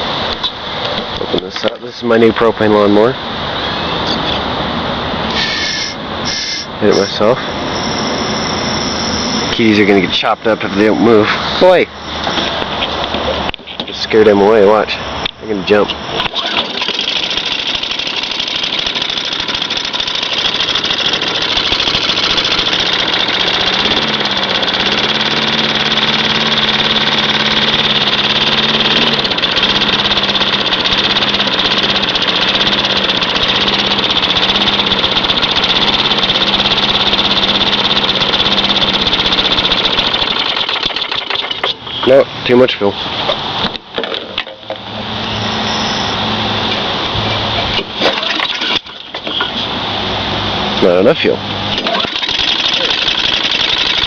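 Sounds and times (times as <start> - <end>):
lawn mower engine running: 5.2 - 42.4, 43.3 - 54.0.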